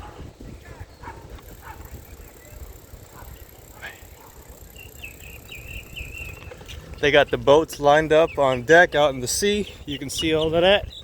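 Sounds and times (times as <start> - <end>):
wind rumble on microphone: 0.0 - 4.0, 5.1 - 11.0.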